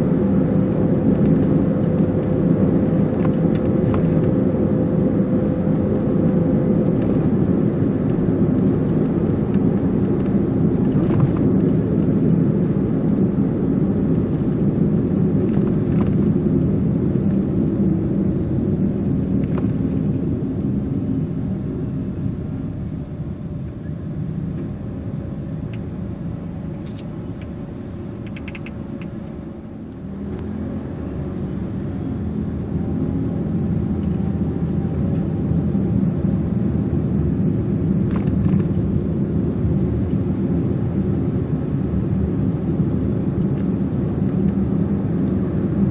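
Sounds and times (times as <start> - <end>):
car tyres and engine rumble: 0.0 - 45.9.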